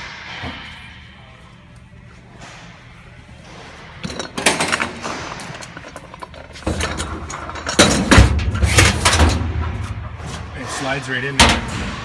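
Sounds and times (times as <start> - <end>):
metal clattering and scraping: 2.3 - 12.0.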